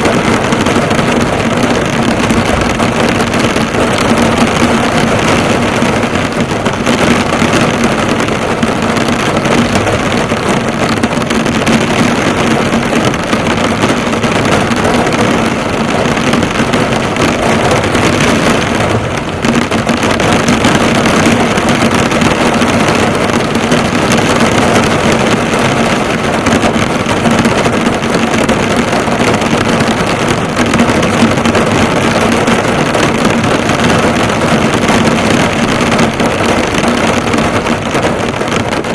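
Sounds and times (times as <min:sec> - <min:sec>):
heavy rain on a car hood: 0:00.0 - 0:38.9.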